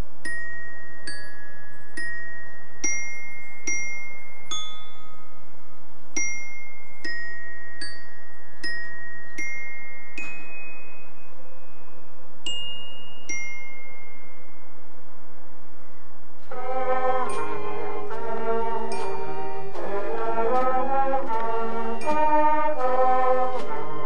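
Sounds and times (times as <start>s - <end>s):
glockenspiel notes ringing: 0.2s - 5.4s, 6.2s - 11.8s, 12.5s - 14.6s, 16.5s - 24.0s.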